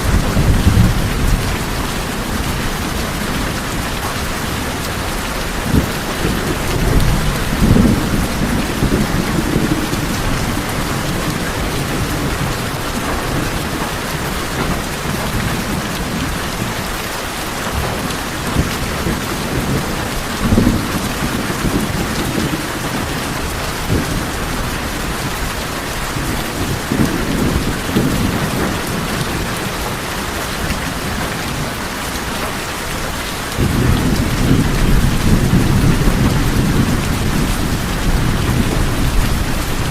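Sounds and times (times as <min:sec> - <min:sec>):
rain drumming on a tin roof: 0:00.0 - 0:39.9
thunder rumbling: 0:00.0 - 0:39.9.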